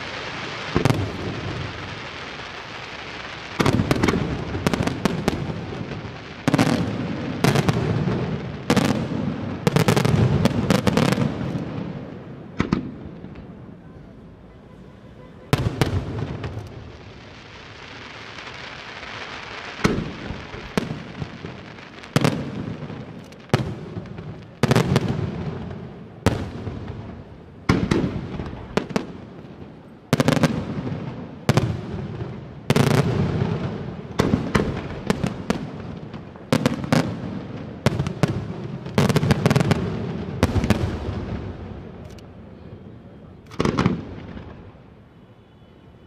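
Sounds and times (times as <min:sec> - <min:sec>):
hissing crackle of firework sparks: 0:00.0 - 0:11.9, 0:15.5 - 0:42.4
fireworks bursting with bangs: 0:00.0 - 0:14.2, 0:15.4 - 0:45.8.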